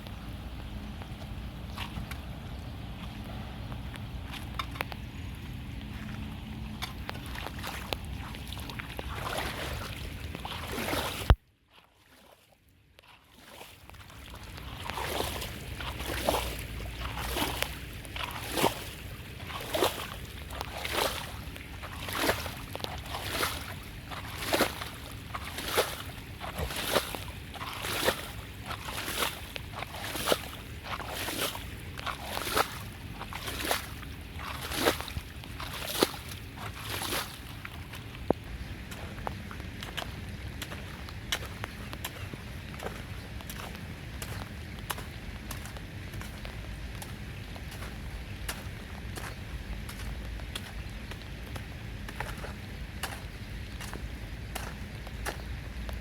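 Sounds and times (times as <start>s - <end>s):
water sloshing: 0.0s - 56.0s.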